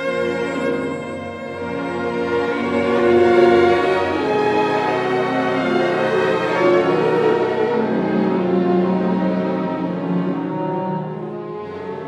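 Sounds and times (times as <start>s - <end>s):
strings holding sustained notes: 0.0s - 12.0s
symphony orchestra playing: 0.0s - 12.0s.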